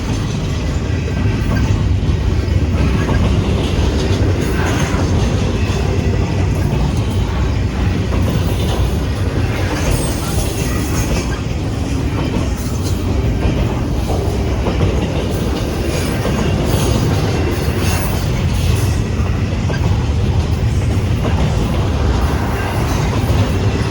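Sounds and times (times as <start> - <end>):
freight train wheels on rails: 0.0 - 23.9
rail clicks: 0.0 - 23.9.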